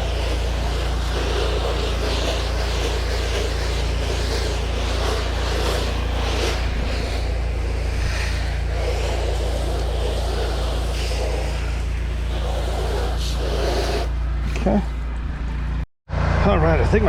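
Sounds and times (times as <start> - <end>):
rushing water hiss: 0.0 - 14.7
pressure washer motor humming: 0.0 - 15.8.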